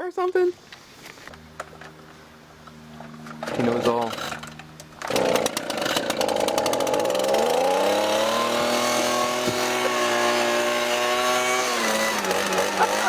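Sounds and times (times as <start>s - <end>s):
leaf blower engine running: 1.4s - 13.0s.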